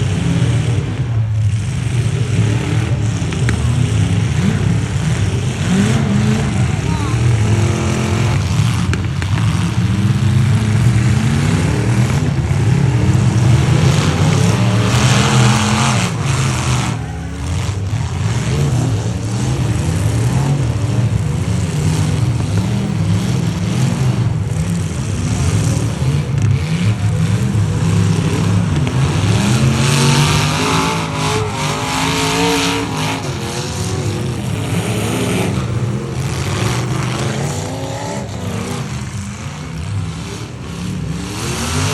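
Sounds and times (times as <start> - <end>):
truck engines revving: 0.0 - 41.9.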